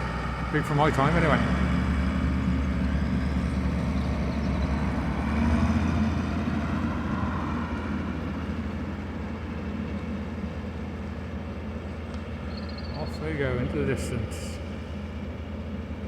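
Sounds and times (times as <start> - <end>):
tractor diesel engines under load: 0.0 - 16.0.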